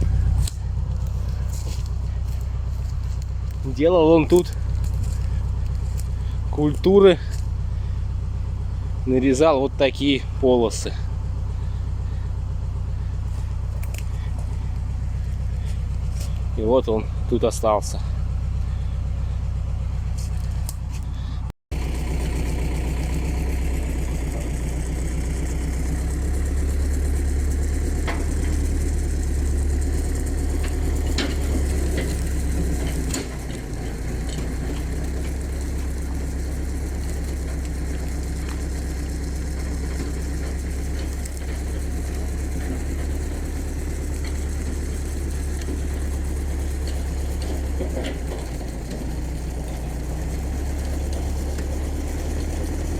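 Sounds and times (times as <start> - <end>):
engine humming: 0.0 - 52.9.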